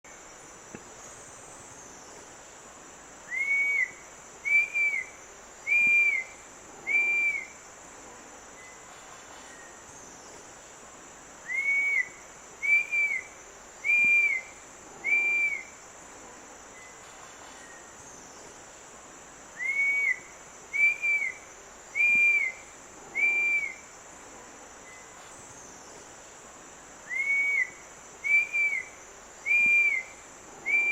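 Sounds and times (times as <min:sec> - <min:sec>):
high insect drone: 0:00.0 - 0:30.9.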